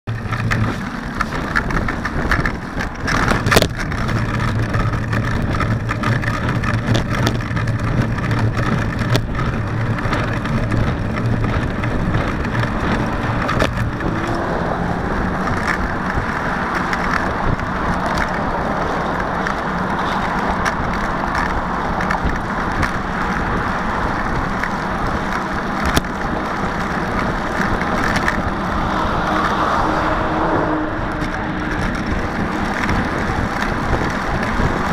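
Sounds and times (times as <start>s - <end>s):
diesel truck engine: 0.0s - 34.9s
traffic passing: 0.0s - 34.9s
wind and road noise: 0.0s - 34.9s
bicycle knocking over bumps: 0.1s - 34.9s.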